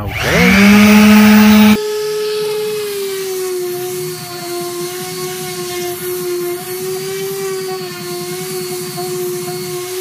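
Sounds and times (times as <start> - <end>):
orbital sander motor hum: 0.0 - 10.0.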